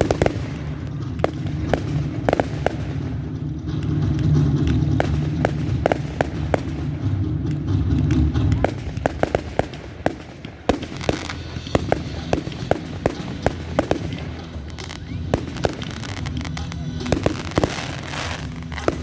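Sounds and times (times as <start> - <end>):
fireworks crackling: 0.0 - 19.0
fireworks shells bursting: 0.0 - 19.0.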